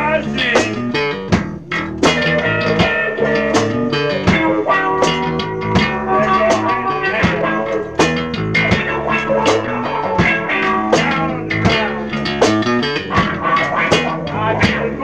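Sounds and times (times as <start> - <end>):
drum hits: 0.0 - 15.0
rock band music: 0.0 - 15.0.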